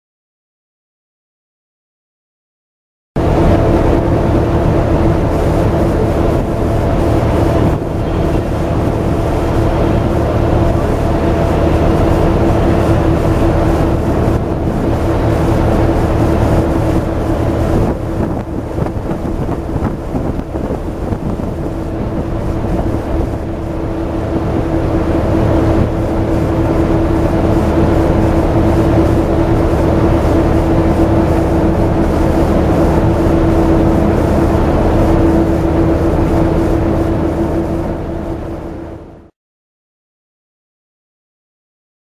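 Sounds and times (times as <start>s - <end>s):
wind on microphone: 3.2s - 39.1s
boat engine humming: 3.2s - 39.3s.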